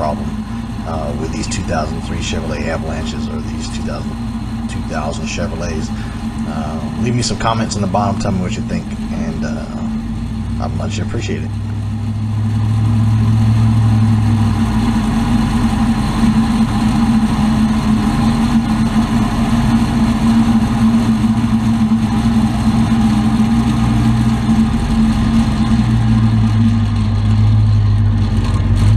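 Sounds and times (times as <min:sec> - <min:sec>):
deeper hum: 0:00.0 - 0:28.9
vehicle whirring drone: 0:00.0 - 0:28.9.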